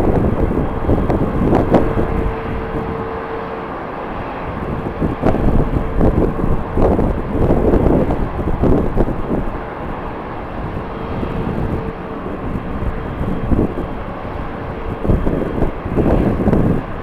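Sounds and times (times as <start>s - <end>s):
jet engines whining: 0.0s - 17.0s
strong wind gusting on microphone: 0.0s - 17.0s.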